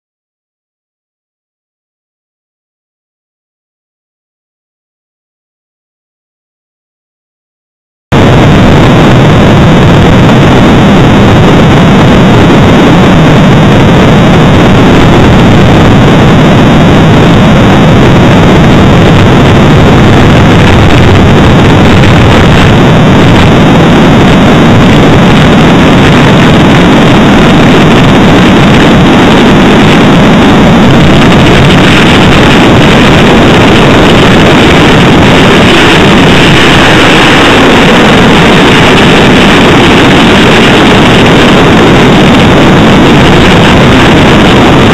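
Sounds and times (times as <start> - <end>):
jet engines roaring: 8.2 - 44.9.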